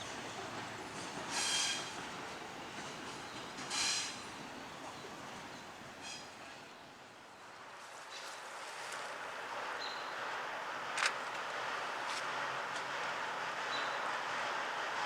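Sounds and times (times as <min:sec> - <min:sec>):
distant train on tracks: 0:00.0 - 0:15.0.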